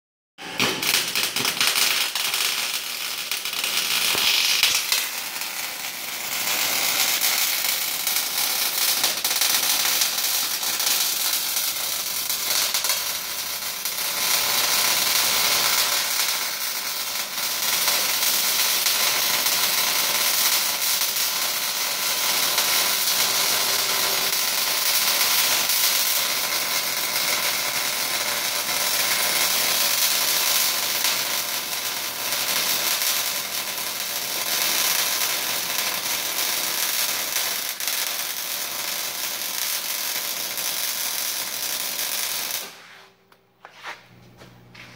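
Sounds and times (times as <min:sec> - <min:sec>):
welding arc crackling: 0:00.4 - 0:43.1.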